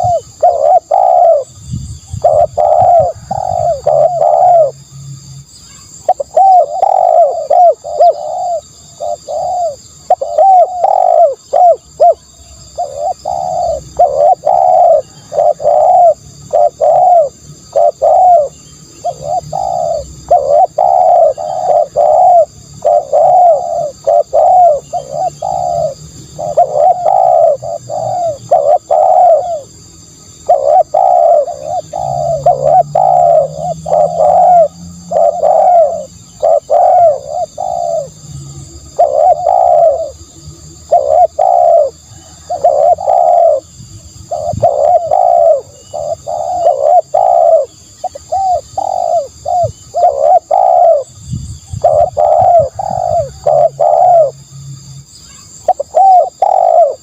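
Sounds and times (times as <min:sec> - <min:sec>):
dove cooing: 0:00.0 - 0:04.9, 0:05.7 - 0:54.5, 0:55.3 - 0:57.0.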